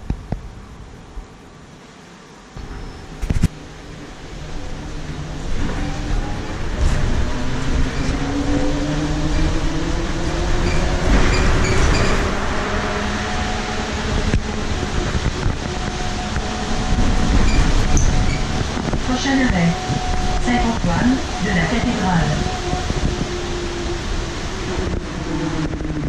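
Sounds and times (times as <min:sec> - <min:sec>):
low road rumble: 0:02.5 - 0:26.0.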